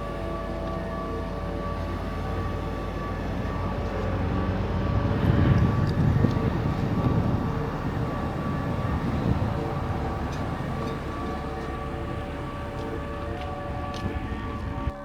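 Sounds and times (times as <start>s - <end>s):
passing vehicle rumble: 0.0s - 15.0s
steady engine hum: 0.0s - 15.0s.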